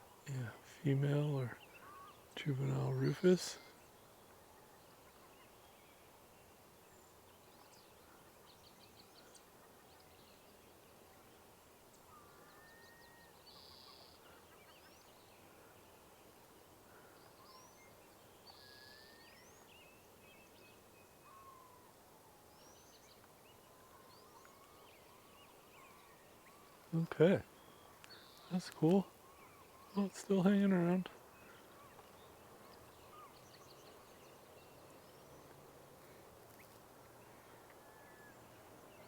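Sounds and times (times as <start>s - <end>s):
bird calls and chirps: 0.0s - 39.0s.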